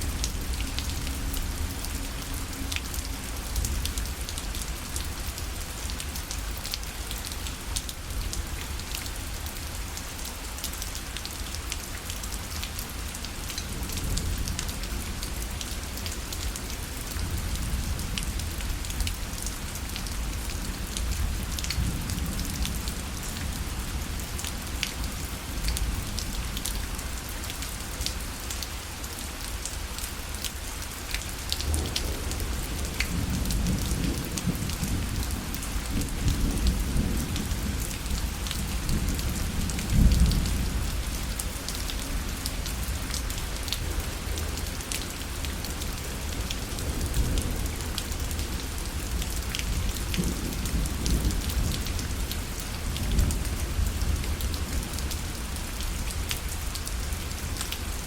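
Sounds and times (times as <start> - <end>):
rain pattering on a parasol: 0.0 - 58.0.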